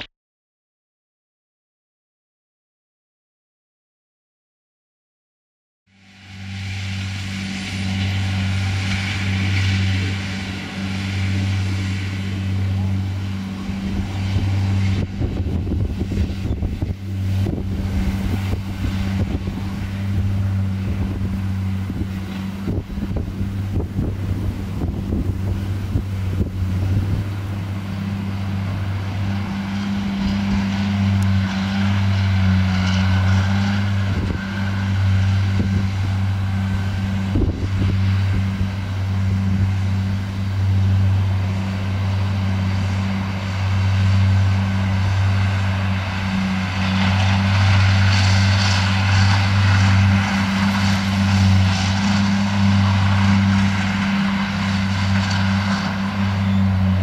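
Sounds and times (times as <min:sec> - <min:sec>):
higher rushing noise: 0:06.1 - 0:57.0
tractor engine running: 0:06.5 - 0:57.0.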